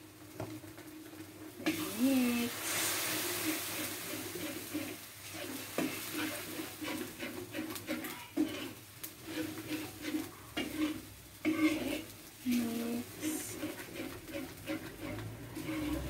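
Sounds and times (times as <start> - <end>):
paste sizzling in oil: 0.0 - 16.0
metal ladle scraping a wok: 1.2 - 16.0.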